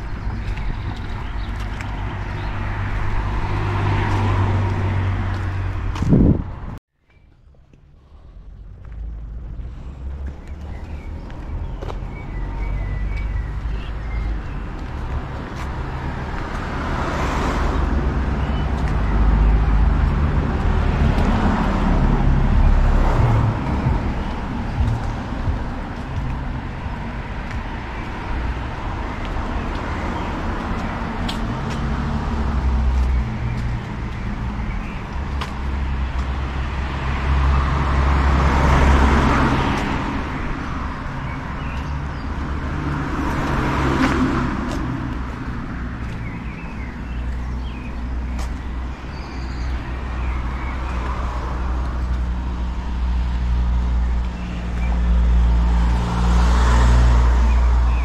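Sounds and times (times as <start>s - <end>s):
road traffic rumble: 0.0s - 58.0s
vehicles passing: 0.0s - 58.0s.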